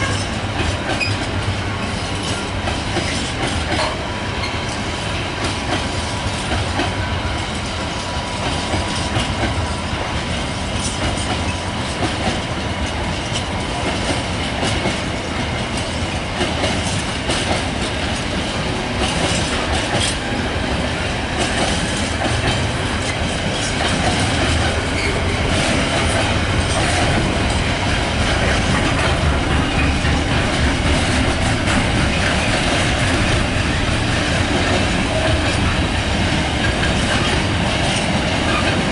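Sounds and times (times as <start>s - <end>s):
wheels squealing on rails: 0.0s - 16.0s, 16.8s - 38.9s
train wheels clattering over rail joints: 0.0s - 38.9s.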